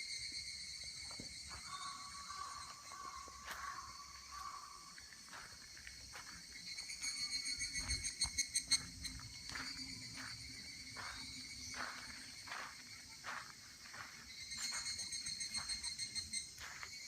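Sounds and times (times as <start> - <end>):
insects chorus: 0.0 - 17.0
rapidly pulsing insect call: 0.0 - 17.0.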